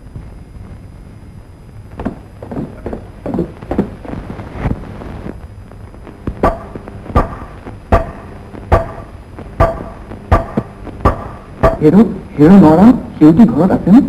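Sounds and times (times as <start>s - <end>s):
soundtrack hiss: 0.0s - 14.0s.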